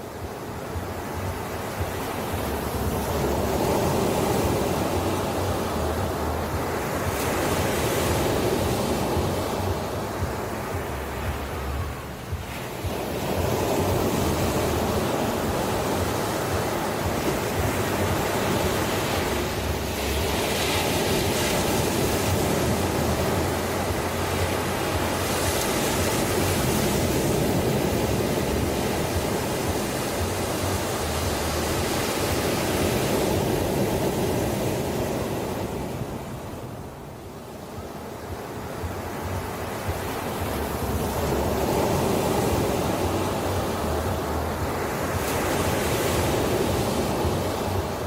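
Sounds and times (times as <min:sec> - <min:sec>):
ocean waves washing onto shore: 0:00.0 - 0:48.0.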